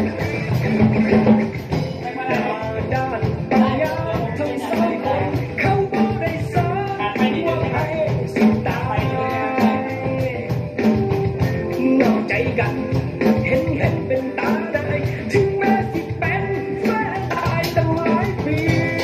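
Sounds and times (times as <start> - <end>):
rock pop song with singing: 0.0 - 19.0
steady drum beat: 0.0 - 19.0.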